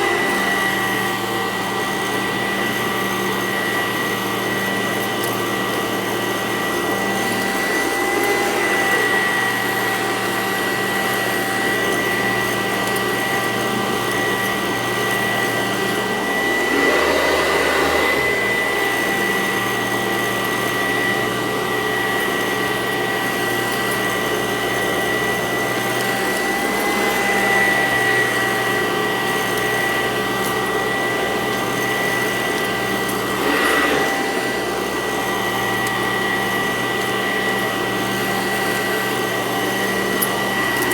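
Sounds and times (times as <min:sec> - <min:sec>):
vacuum cleaner on carpet: 0:00.0 - 0:40.9.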